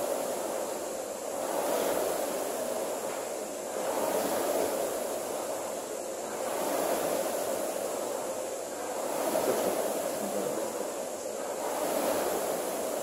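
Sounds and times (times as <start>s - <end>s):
rowing machine fan whooshing: 0.0s - 13.0s.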